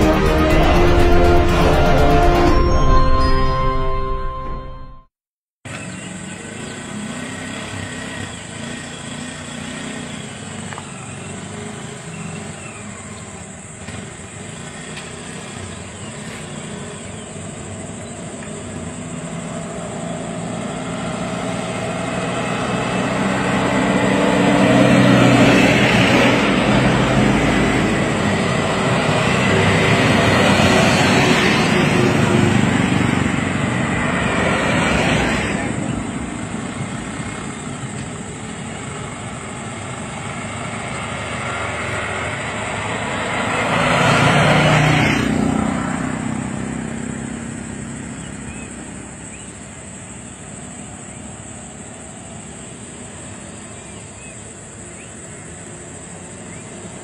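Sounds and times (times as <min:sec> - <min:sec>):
vehicle engines running: 0:05.7 - 0:57.0.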